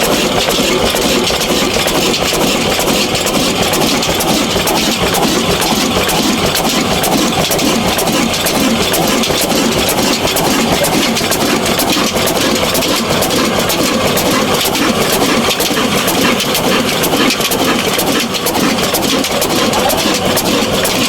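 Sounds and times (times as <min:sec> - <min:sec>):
diesel engine idling with knock: 0:00.0 - 0:21.0.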